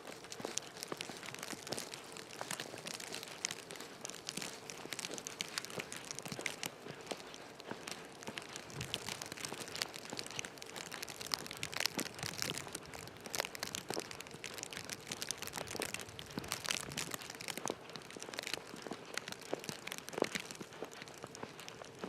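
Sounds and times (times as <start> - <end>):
crackling and crinkling clicks: 0.0 - 22.0.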